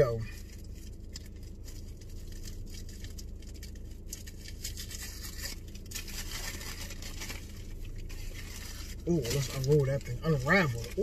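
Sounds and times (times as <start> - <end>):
low steady hum: 0.0 - 11.0
paper wrapper crinkling: 0.0 - 11.0.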